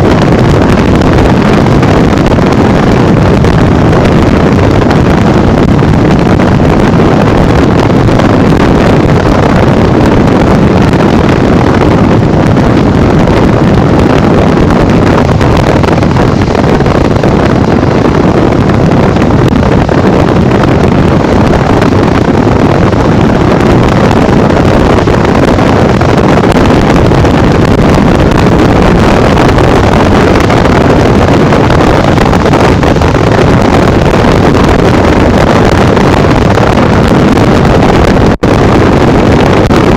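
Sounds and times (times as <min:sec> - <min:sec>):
road noise: 0:00.0 - 0:39.8
wind buffeting microphone: 0:00.0 - 0:39.9.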